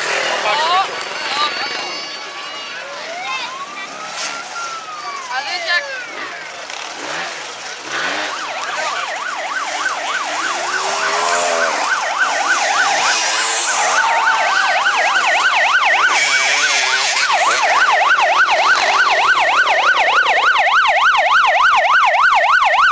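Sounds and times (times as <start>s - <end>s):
dirt bike engines revving: 0.0s - 21.6s
emergency siren yelping: 0.3s - 6.8s, 7.8s - 22.9s.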